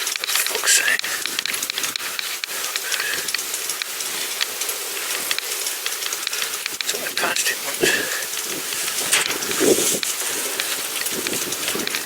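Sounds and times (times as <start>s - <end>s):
bicycle clicks and rattles: 0.0s - 12.0s
bicycle tyres hissing: 0.0s - 12.0s.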